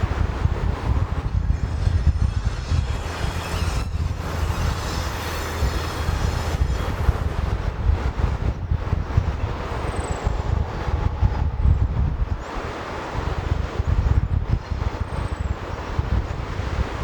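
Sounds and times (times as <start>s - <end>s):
train rumbling by: 0.0s - 17.0s
wind buffeting microphone: 0.0s - 17.0s.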